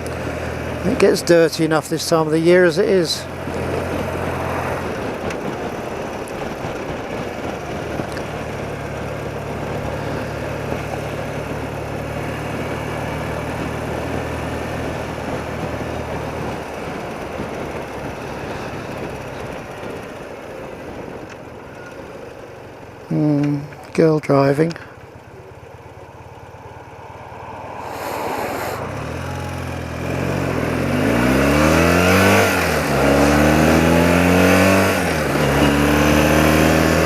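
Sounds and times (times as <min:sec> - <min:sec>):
rushing wind: 0:00.0 - 0:22.2, 0:25.2 - 0:37.0
motorcycle engine running: 0:00.0 - 0:37.0
road noise: 0:00.0 - 0:37.0.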